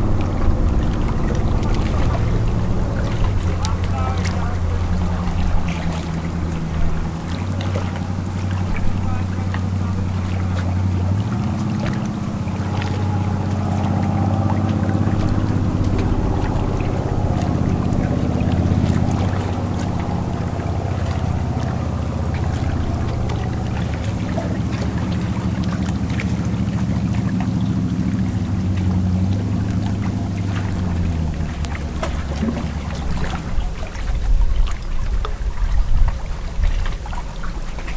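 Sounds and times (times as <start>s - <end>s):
boat engine humming: 0.0s - 37.9s.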